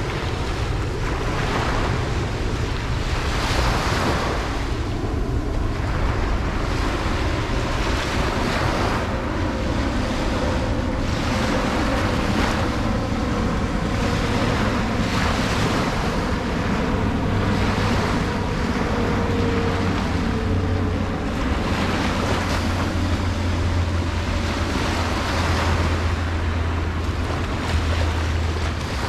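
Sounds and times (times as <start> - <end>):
low rumble: 0.0 - 29.0
waves breaking on beach: 0.0 - 29.0.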